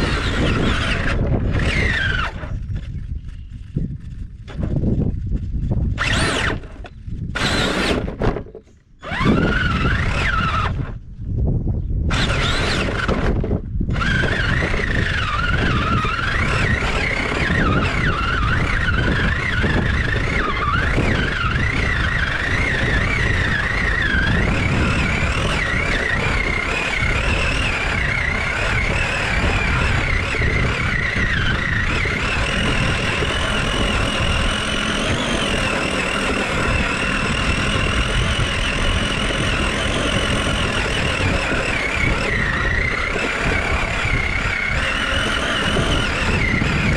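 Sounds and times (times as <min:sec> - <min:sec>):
rc truck engine whining: 0:00.0 - 0:11.3, 0:12.0 - 0:46.9.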